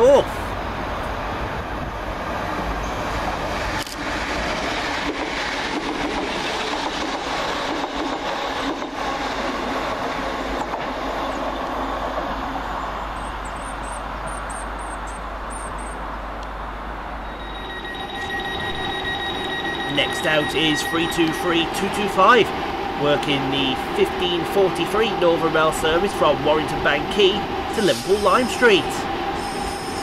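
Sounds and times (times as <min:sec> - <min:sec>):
train wheel and traction rush: 0:00.0 - 0:30.0.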